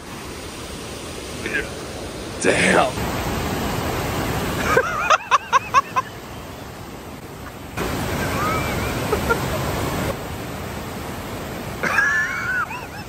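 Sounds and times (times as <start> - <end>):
water rushing from pipe: 0.0 - 13.0.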